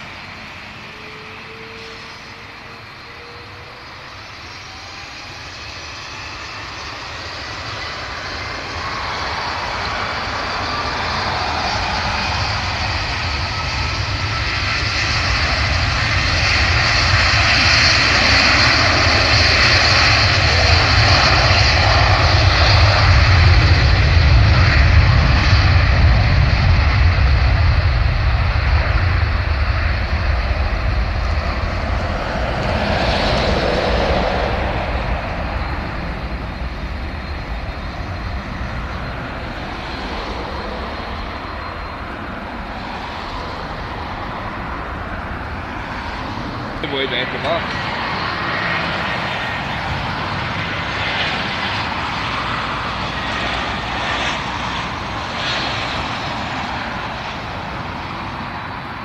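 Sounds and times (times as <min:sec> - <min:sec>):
faint engine whine: 0:00.0 - 0:59.0
jet airliner taking off: 0:00.0 - 0:59.0.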